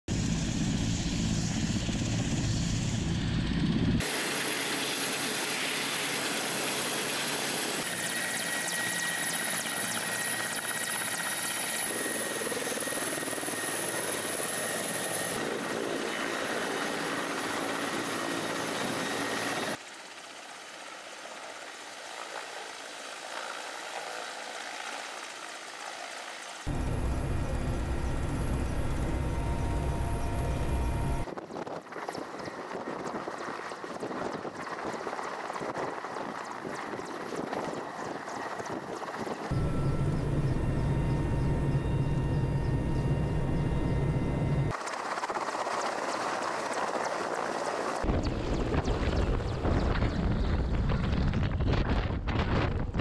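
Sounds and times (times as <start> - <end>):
helicopter turbine whine: 0.1 - 51.6
helicopter rotor in flight: 0.1 - 53.0
helicopter rotor rumble: 0.1 - 53.0.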